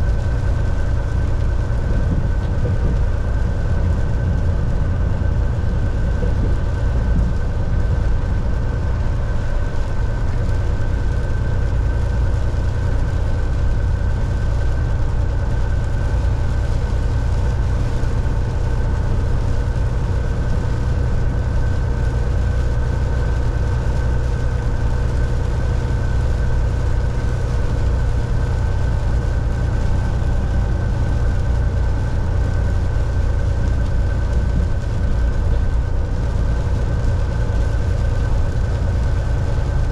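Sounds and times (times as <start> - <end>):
faint steady whine: 0.0 - 39.9
truck engine and road rumble: 0.0 - 39.9.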